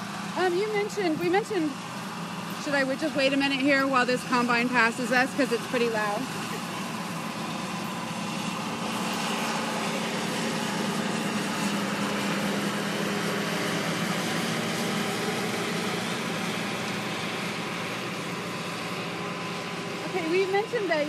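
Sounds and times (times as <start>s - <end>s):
combine harvester engine drone: 0.0s - 21.0s.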